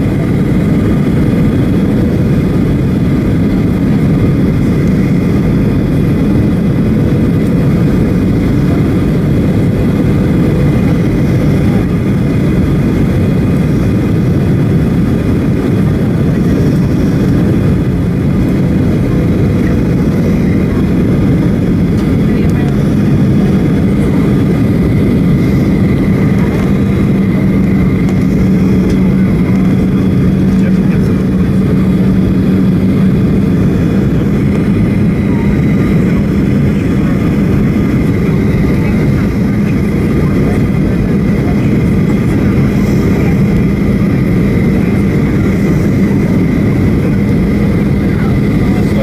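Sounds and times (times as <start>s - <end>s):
aircraft engines rushing: 0.0s - 49.0s
airflow: 0.0s - 49.0s
constant low hum: 0.0s - 49.0s
faint steady whine: 0.0s - 49.0s.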